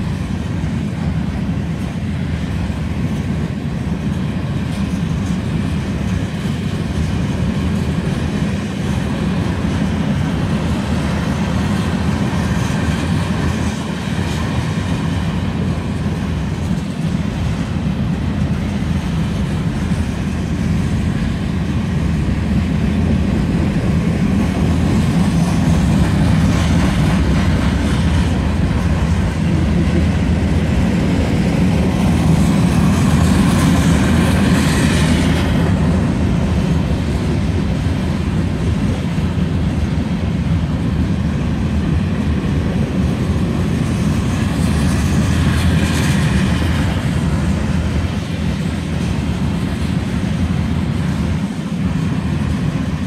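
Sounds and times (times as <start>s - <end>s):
clickety-clack over rail joints: 0.0s - 53.0s
train wheels rumbling on rail: 0.0s - 53.0s.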